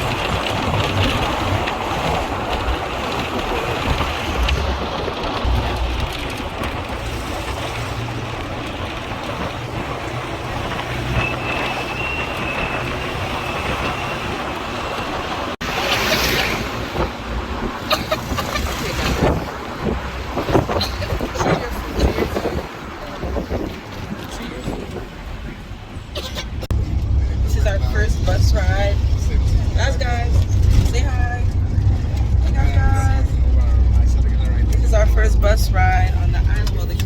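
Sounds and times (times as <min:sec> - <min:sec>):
vehicle engine and road noise: 0:00.0 - 0:37.0
wind noise: 0:00.0 - 0:37.0.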